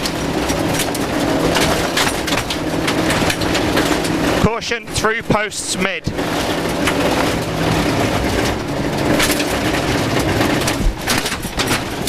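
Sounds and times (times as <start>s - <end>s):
car engine running hard: 0.0s - 12.0s
tyres rushing on gravel: 0.0s - 12.0s.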